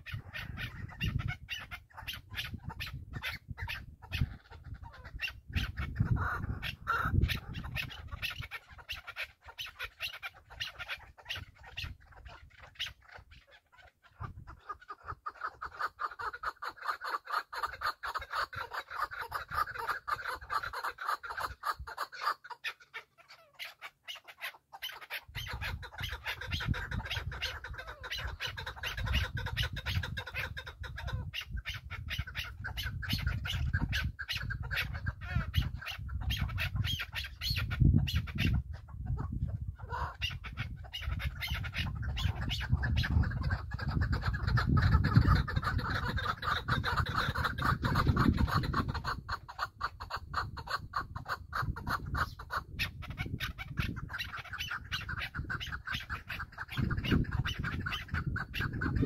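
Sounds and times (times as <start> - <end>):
gamebird calling: 0.0 - 59.0.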